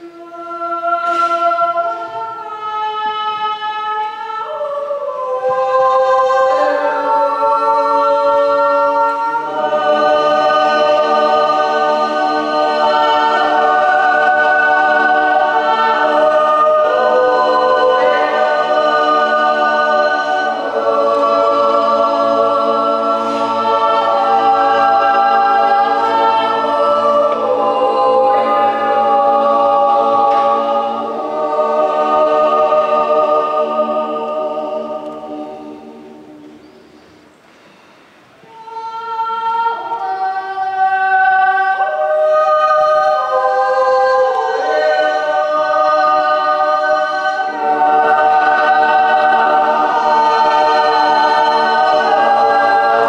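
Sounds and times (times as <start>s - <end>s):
choir singing a cappella: 0.0s - 37.3s, 38.4s - 53.0s.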